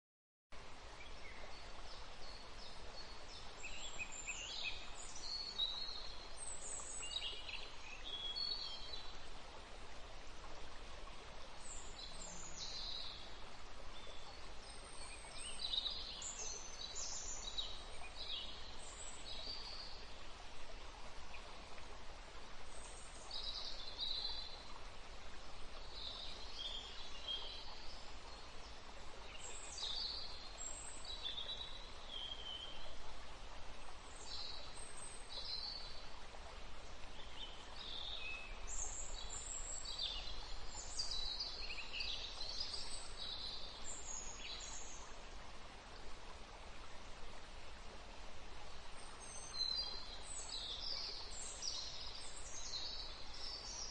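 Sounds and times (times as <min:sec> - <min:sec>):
soft background hiss: 0:00.6 - 0:53.9.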